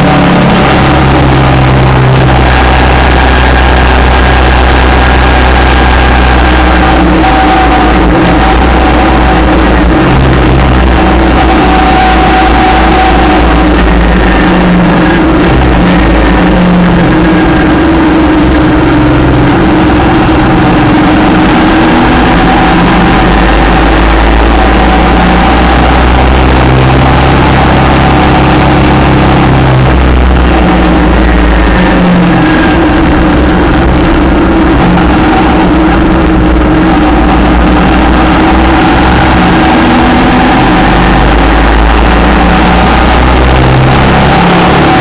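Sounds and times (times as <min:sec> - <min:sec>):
motorcycle engine running: 0:00.0 - 0:45.0
wind noise on microphone: 0:00.0 - 0:45.0.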